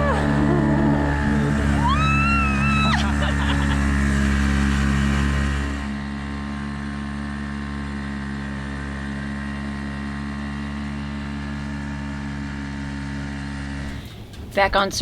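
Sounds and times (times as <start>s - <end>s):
outboard motor running: 0.0s - 14.6s.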